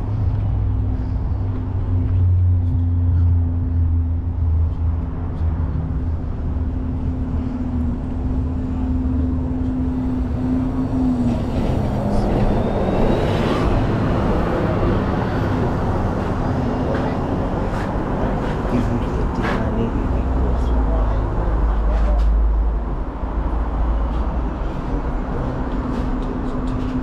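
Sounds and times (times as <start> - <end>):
cars passing: 0.0 - 27.0
traffic engine hum: 0.0 - 27.0.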